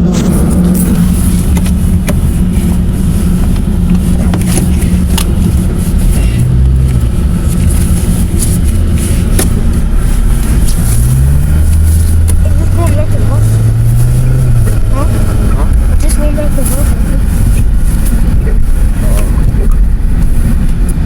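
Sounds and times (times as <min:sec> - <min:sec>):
vehicle engine rumble: 0:00.0 - 0:21.0.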